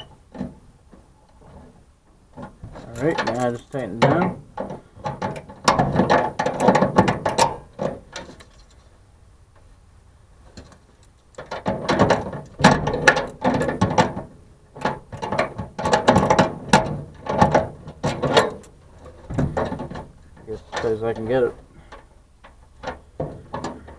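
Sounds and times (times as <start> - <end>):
vise grips clicking and scraping on nut: 2.4 - 8.9, 10.5 - 23.9.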